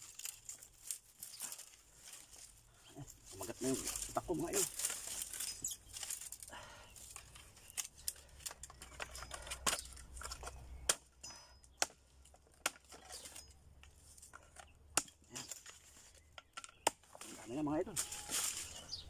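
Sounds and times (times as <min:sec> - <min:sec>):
twigs and leaves rustling: 0:00.0 - 0:19.0
machete chopping branches: 0:03.5 - 0:19.0.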